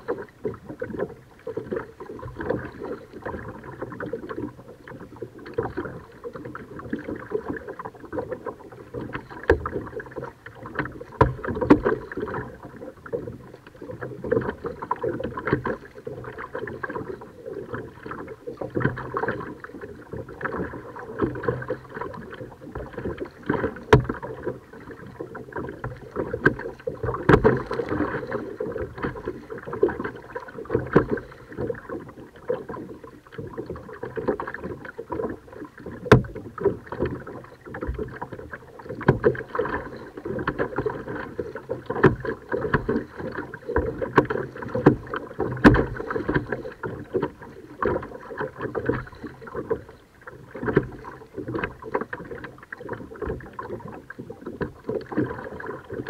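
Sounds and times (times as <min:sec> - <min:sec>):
paddle splashing: 0:00.0 - 0:56.0
water moving along hull: 0:00.0 - 0:56.0.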